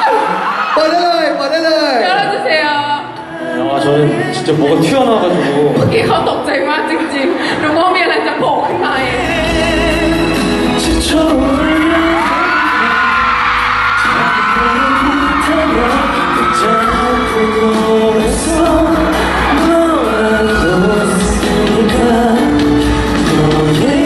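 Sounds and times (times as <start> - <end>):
pop song with singing: 0.0 - 24.0.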